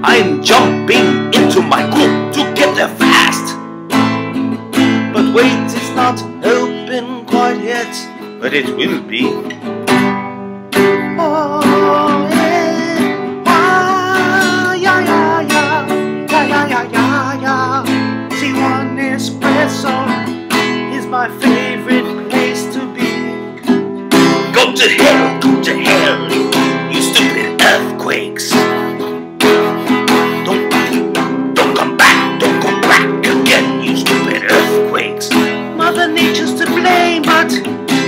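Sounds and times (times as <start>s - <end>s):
man singing wordless melody: 0.0s - 3.7s, 5.0s - 9.6s, 11.0s - 23.7s, 24.4s - 38.0s
acoustic guitar strumming: 0.0s - 38.0s.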